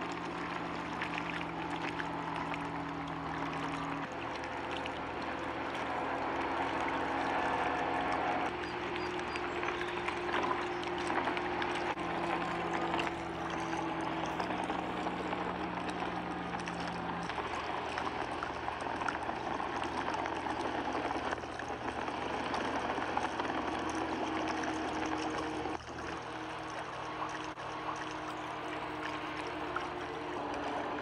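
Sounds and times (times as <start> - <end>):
water splashing along boat hull: 0.0 - 31.0.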